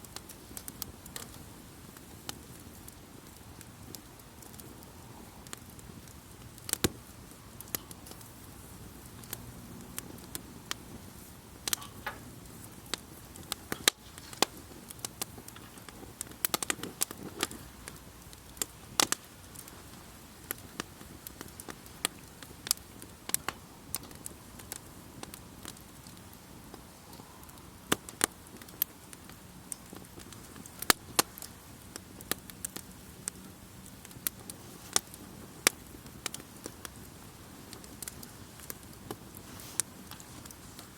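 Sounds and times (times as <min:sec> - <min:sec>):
campfire crackling: 0:00.0 - 0:40.9
faint steady hiss: 0:00.0 - 0:40.9.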